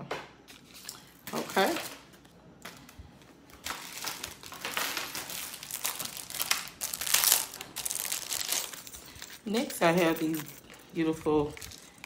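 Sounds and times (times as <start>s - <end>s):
plastic packaging crinkling: 0.6s - 12.0s.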